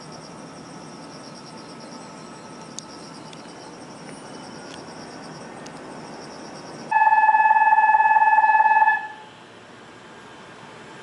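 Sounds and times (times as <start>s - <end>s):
crickets chirping: 0.0s - 9.3s
fluttering electronic buzzer tone: 0.0s - 9.3s.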